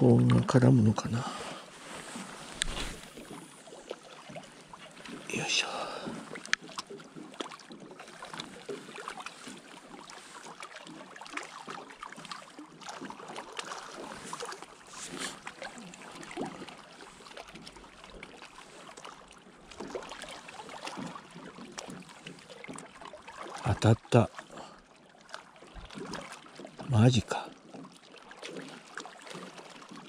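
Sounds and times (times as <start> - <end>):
lake water lapping: 0.0 - 30.0
small splashes and ticks: 2.5 - 30.0.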